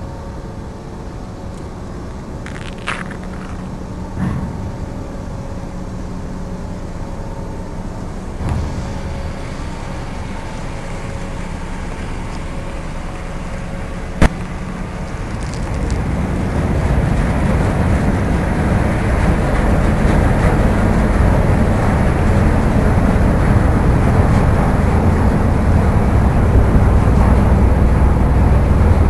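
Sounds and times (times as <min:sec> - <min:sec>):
ship engines humming: 0:00.0 - 0:29.0.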